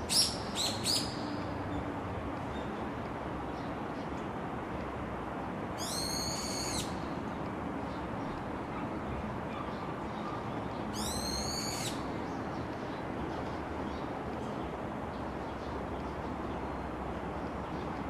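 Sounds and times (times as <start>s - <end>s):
steady background hiss: 0.0s - 8.2s, 10.8s - 17.6s.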